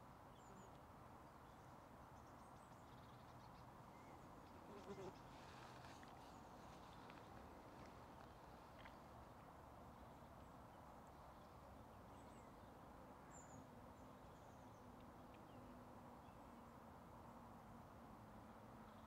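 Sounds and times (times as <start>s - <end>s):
faint steady low hum: 0.0s - 19.0s.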